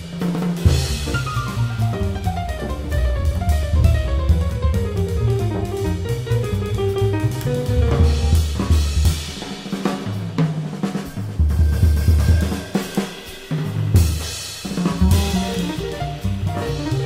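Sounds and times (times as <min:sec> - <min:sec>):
band music with drum kit: 0:00.0 - 0:17.0.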